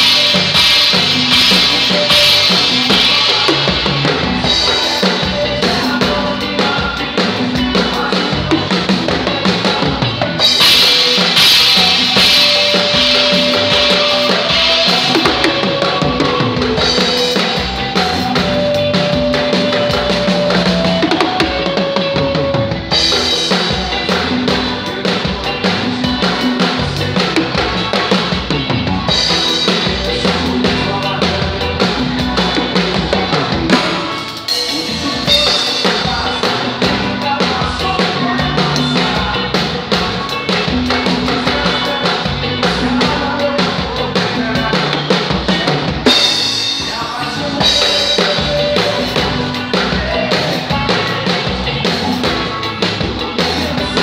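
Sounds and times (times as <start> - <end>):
band with keyboards: 0.0 - 54.0
drum kit groove: 0.0 - 54.0.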